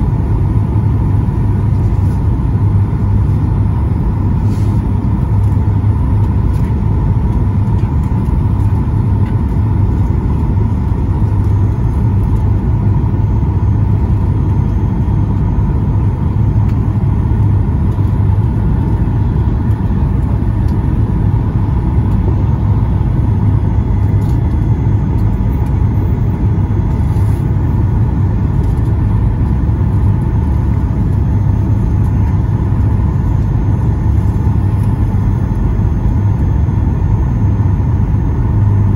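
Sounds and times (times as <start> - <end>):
airplane cabin rumble: 0.0 - 38.9
faint steady hum: 0.0 - 38.9.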